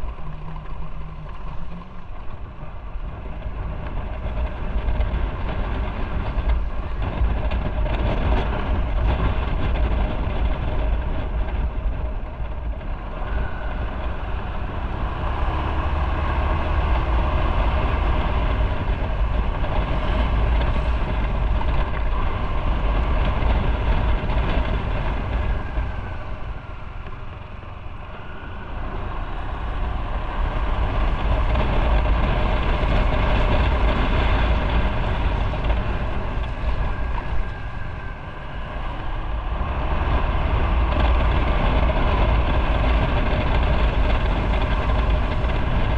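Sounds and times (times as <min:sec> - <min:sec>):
motorcycle engine running: 0:00.0 - 0:45.9
wind rumbling on microphone: 0:00.0 - 0:45.9.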